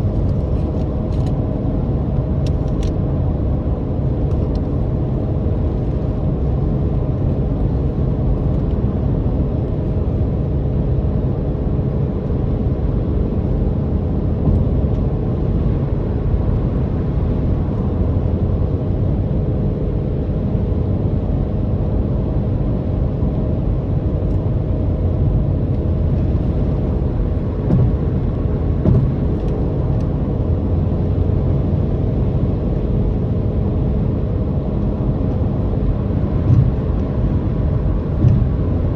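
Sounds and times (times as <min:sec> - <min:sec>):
car engine droning: 0:00.0 - 0:38.9
road and tyre rumble: 0:00.0 - 0:38.9.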